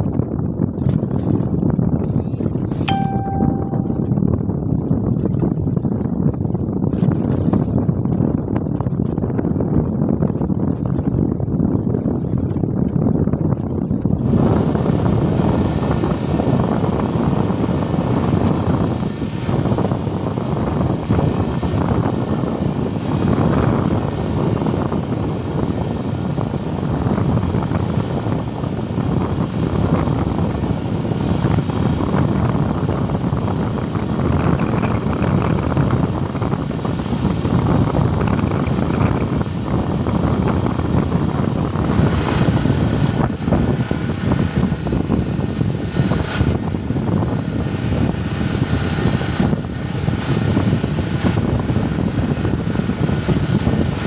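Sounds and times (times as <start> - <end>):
loud steady rumbling: 0.0 - 54.0.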